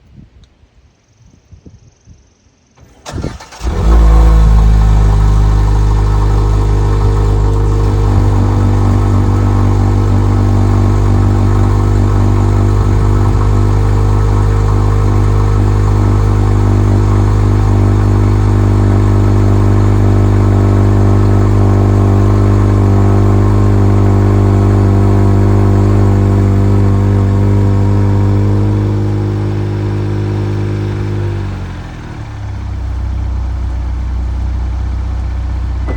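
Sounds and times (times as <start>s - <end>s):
car engine starting and idling: 2.8s - 35.9s.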